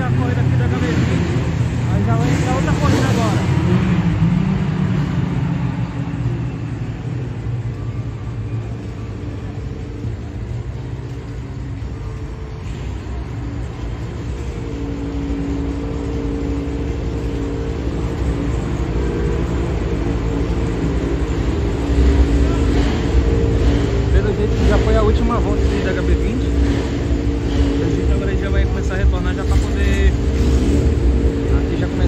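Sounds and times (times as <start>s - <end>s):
race car engines droning: 0.0s - 32.0s
steadier engine note: 0.0s - 32.0s.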